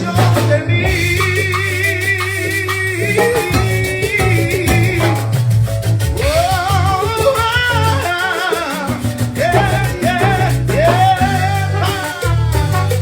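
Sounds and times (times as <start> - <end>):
person singing: 0.0 - 5.4, 6.2 - 13.0
latin dance band playing: 0.0 - 13.0.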